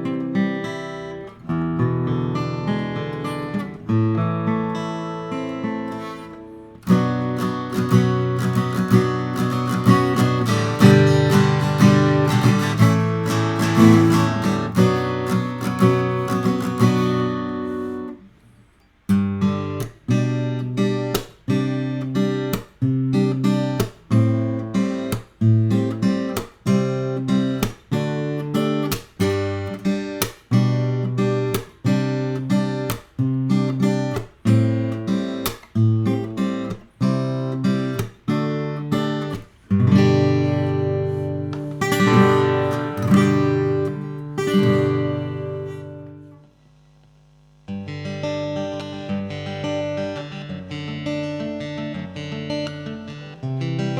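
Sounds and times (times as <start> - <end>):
acoustic guitar strumming: 0.0 - 46.9, 47.6 - 53.9.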